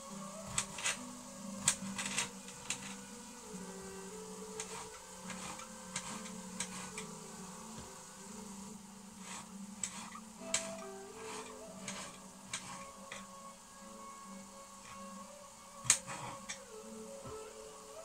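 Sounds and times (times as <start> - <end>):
mince sizzling and bubbling: 0.0 - 18.0.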